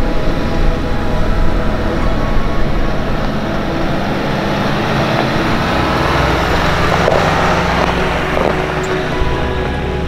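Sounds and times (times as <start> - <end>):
vehicle engine driving slowly: 0.0 - 10.0
tyres crunching over gravel: 0.4 - 10.0.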